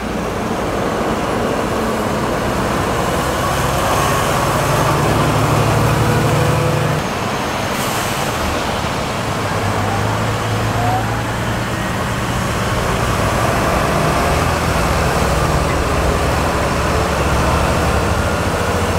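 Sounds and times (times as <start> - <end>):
diesel tractor engines under load: 0.0 - 18.9.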